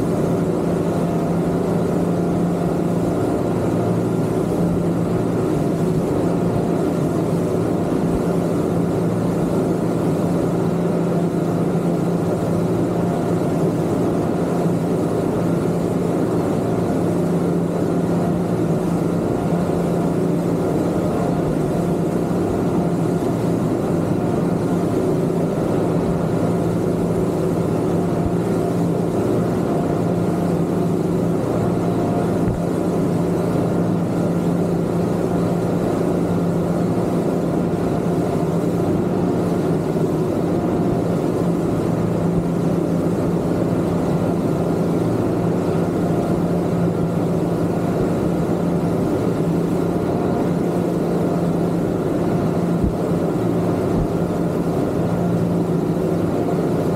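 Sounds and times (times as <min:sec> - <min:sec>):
outboard motors running: 0:00.0 - 0:56.9
rushing water noise: 0:00.0 - 0:56.9.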